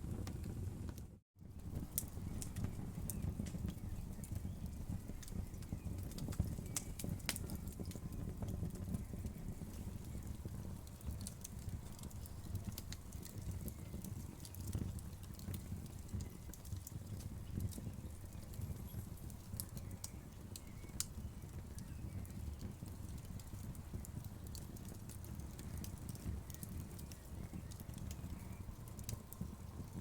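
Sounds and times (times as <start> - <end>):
wood fire burning: 0.0 - 30.0.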